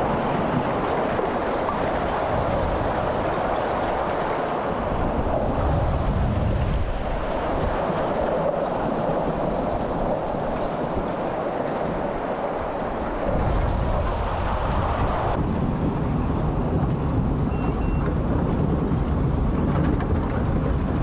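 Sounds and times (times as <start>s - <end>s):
motorboat rushing on water: 0.0s - 21.0s.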